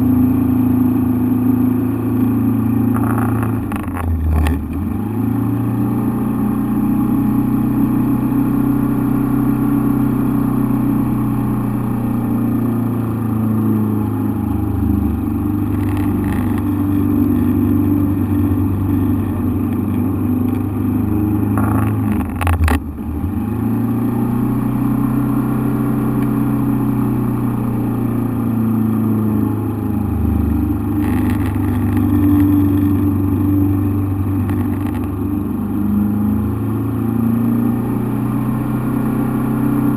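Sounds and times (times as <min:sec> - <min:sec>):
engine running loudly: 0:00.0 - 0:39.9.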